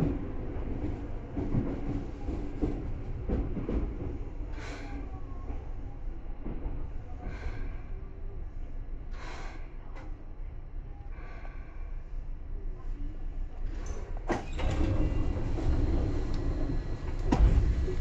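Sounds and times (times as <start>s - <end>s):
low steady train hum: 0.0s - 18.0s.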